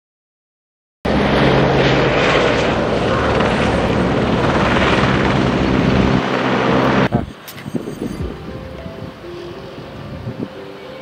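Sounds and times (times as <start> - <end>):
helicopter flying overhead: 1.1 - 11.0.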